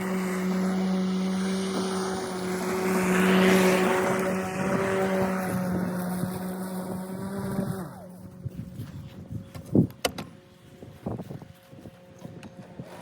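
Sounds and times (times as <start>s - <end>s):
electric lawn tool motor hum: 0.0s - 13.0s.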